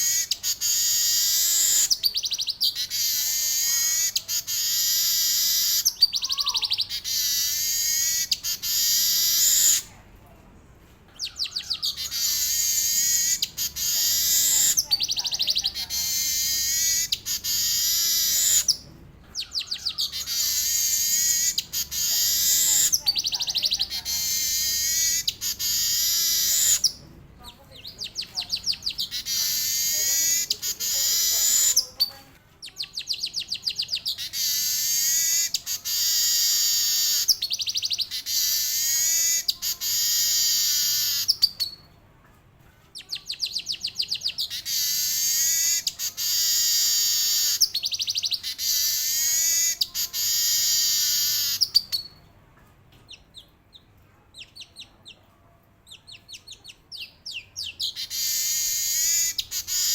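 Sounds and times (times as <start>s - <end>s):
weaver bird singing: 0.0s - 9.9s, 11.2s - 41.8s, 43.0s - 52.2s, 55.9s - 59.9s.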